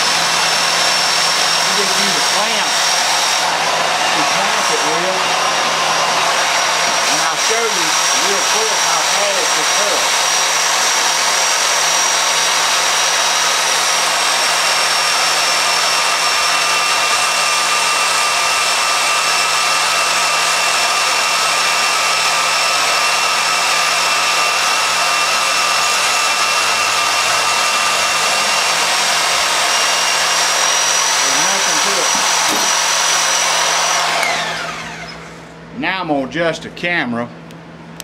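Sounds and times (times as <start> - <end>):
bandsaw motor whine: 0.0 - 35.6.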